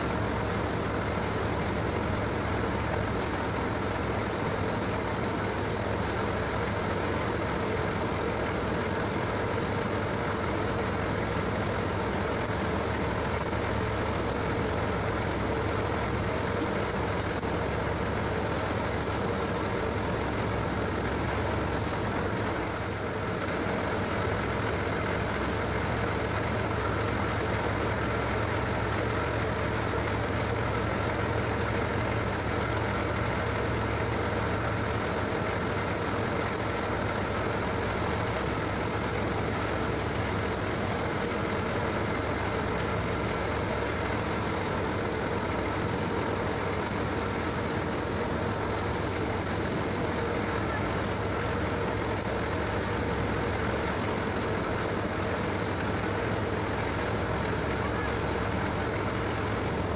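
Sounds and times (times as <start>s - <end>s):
threshing drum whirring: 0.0s - 59.9s
threshing machine engine drone: 0.0s - 59.9s.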